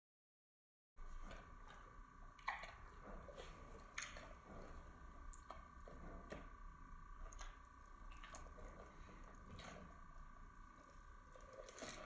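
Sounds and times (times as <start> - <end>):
faint steady tone: 1.0 - 12.0
chicken wings being chewed: 1.2 - 6.6, 7.2 - 12.0.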